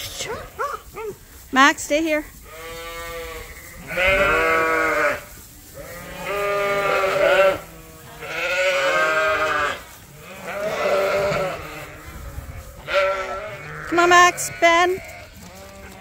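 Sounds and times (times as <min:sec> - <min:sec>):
sheep bleating: 0:02.5 - 0:16.0.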